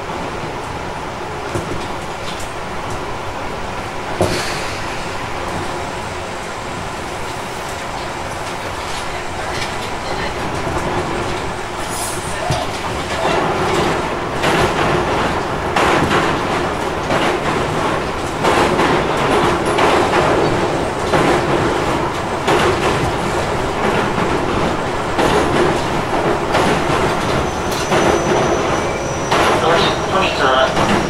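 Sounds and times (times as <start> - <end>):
wheels rumbling on rail: 0.0 - 31.0
clack over track joints: 1.4 - 3.1, 7.6 - 31.0.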